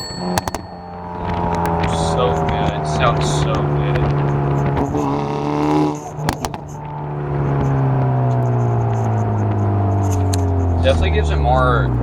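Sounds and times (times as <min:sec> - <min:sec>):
car engine accelerating: 0:00.0 - 0:12.0
exhaust cracks: 0:00.0 - 0:12.0.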